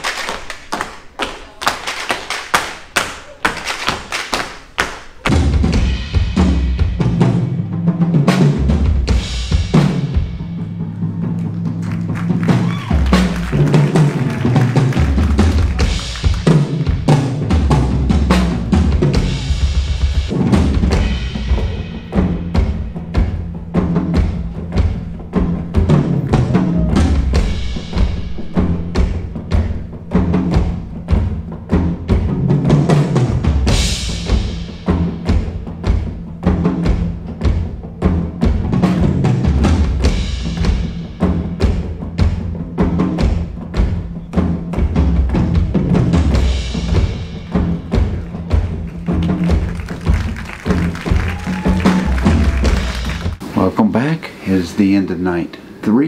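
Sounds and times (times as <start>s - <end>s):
backing track with bass and drums: 5.2s - 53.6s.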